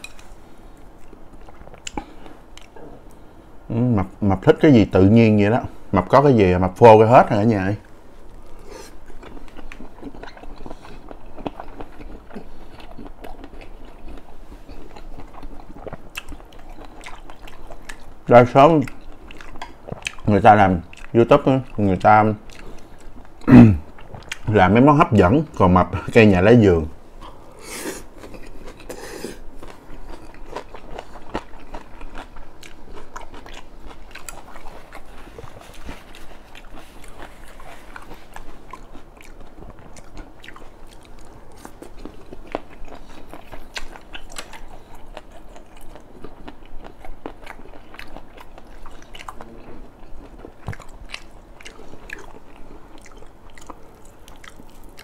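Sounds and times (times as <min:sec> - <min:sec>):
person chewing food: 0:00.0 - 0:03.2, 0:08.2 - 0:21.8, 0:22.4 - 0:24.5, 0:27.2 - 0:55.0.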